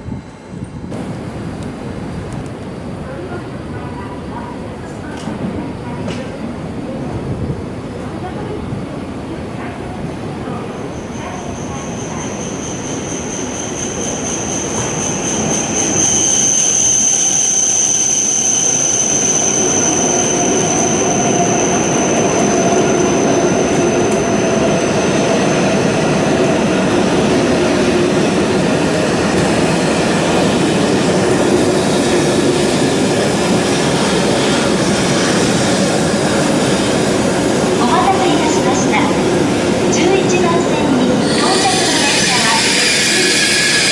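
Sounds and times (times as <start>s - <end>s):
high-speed train running: 0.0s - 43.9s.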